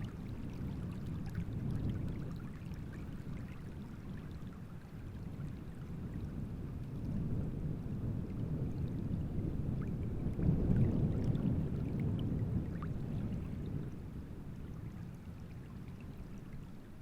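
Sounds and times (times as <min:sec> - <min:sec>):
waves lapping and splashing: 0:00.0 - 0:17.0.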